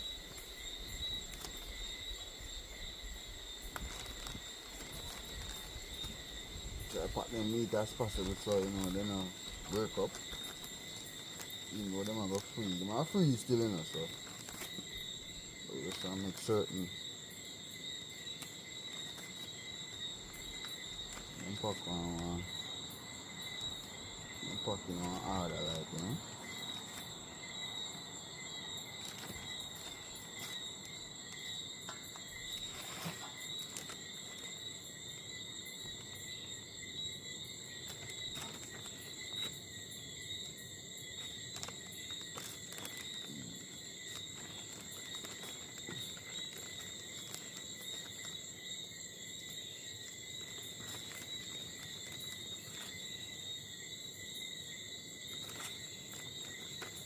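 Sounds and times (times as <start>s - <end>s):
crickets trilling: 0.0s - 57.0s
light insect clicks: 0.0s - 57.0s.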